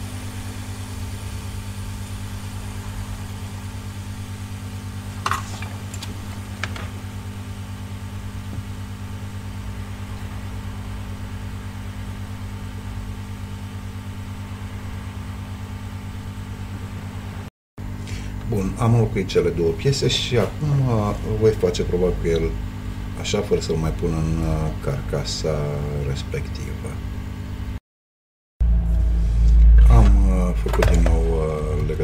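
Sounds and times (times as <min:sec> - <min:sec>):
low electrical hum: 0:00.0 - 0:27.8, 0:28.6 - 0:32.0.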